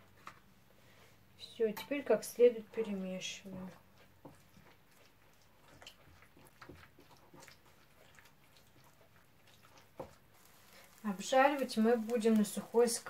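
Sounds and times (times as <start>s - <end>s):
soft squelching: 2.5s - 13.0s.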